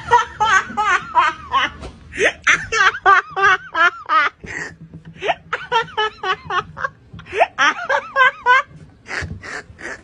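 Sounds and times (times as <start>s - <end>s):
person laughing hard: 0.0s - 10.0s.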